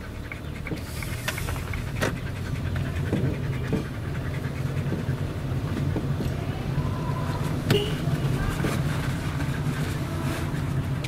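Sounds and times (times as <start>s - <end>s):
car hum in motion: 0.0s - 11.0s
dog panting: 0.0s - 11.0s.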